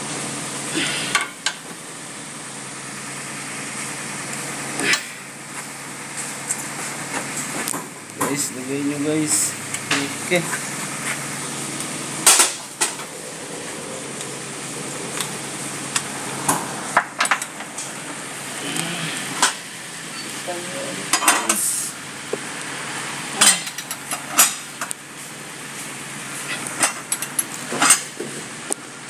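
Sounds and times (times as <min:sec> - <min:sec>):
workshop background noise: 0:04.7 - 0:28.7.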